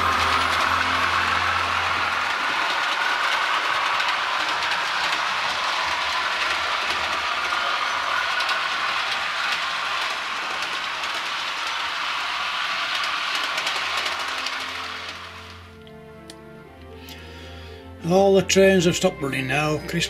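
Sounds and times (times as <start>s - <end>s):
model train wheels rumbling: 0.0s - 16.8s
clicking over rail joints: 0.0s - 17.2s.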